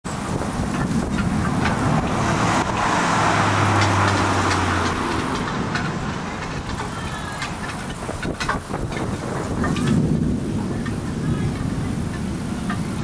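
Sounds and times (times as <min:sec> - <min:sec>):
road vehicle passing: 0:00.0 - 0:13.0.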